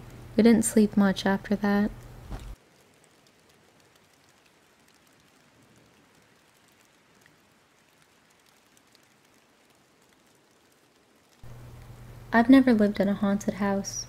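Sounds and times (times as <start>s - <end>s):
faint steady rain: 0.0s - 14.0s.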